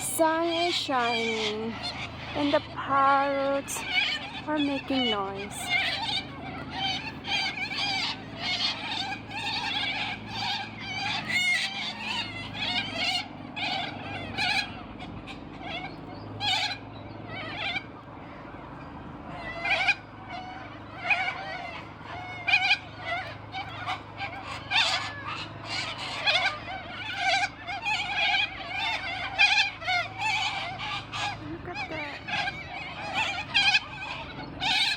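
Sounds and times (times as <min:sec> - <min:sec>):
cockatoos screeching: 0:00.0 - 0:34.9.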